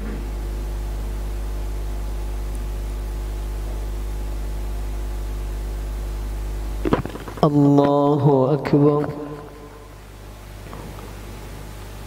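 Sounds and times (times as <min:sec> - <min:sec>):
sound system electrical hum: 0:00.0 - 0:12.0.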